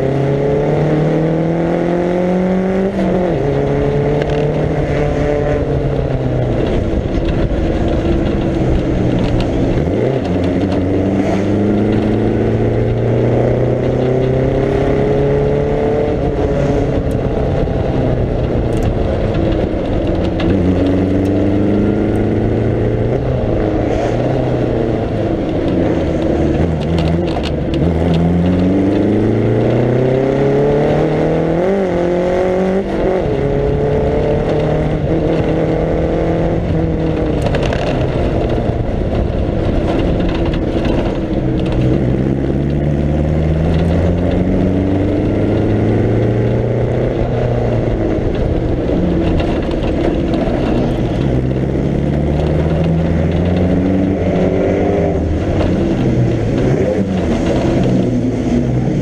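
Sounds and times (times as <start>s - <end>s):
car engine revving under load: 0.0s - 59.0s.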